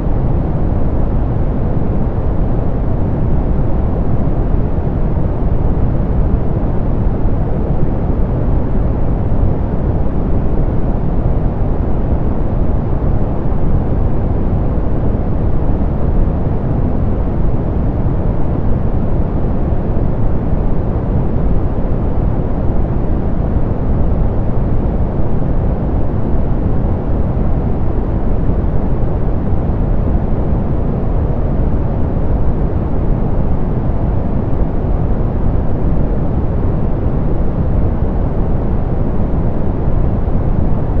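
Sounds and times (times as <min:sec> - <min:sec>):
pink noise low rush: 0:00.0 - 0:41.0.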